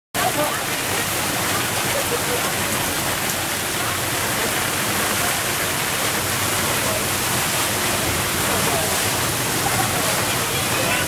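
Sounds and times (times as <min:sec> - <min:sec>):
torrential rain on water and boat: 0:00.1 - 0:11.0.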